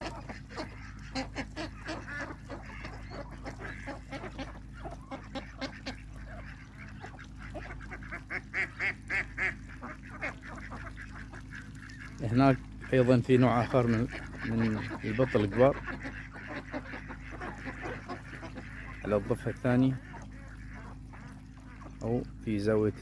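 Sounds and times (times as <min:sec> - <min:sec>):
ducks quacking: 0:00.0 - 0:23.0
steady low hum: 0:00.0 - 0:23.0.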